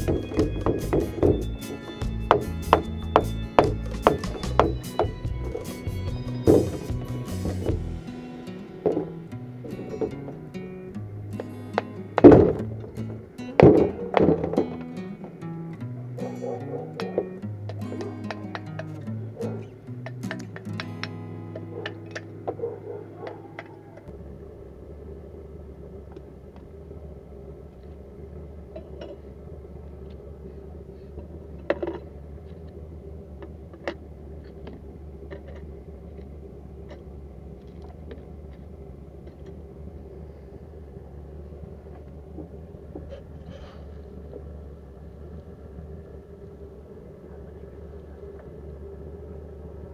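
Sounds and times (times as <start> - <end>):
steady low rumble: 0.0 - 16.5, 18.7 - 49.9.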